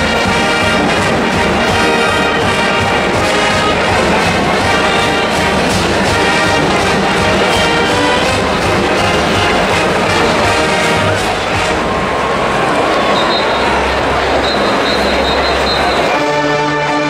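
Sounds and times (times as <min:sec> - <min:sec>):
steady drum beat: 0:00.0 - 0:16.1
marching band playing brass tune: 0:00.0 - 0:17.0.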